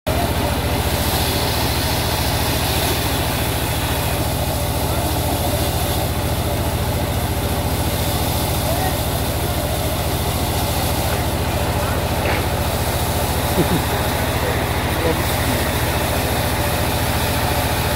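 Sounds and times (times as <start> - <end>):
sawmill engine chugging: 0.1 - 17.9.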